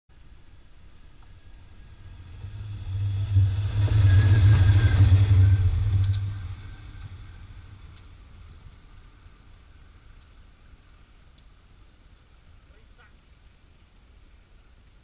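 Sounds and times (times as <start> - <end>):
locomotive engine rumble: 0.2 - 13.2.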